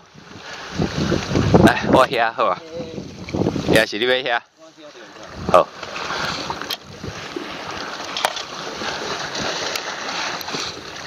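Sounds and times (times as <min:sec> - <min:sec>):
water splashing against rocks: 0:00.0 - 0:04.0, 0:04.8 - 0:11.0.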